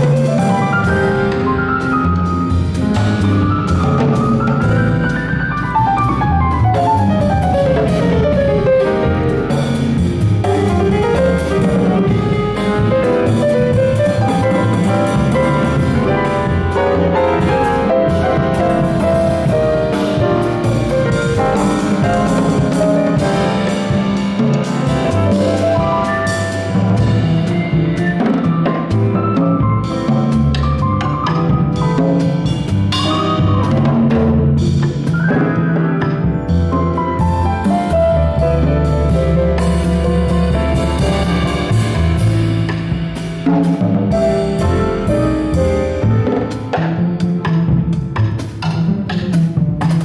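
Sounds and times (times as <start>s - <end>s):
double bass line: 0.0s - 50.0s
drum kit: 0.0s - 50.0s
piano: 0.0s - 50.0s.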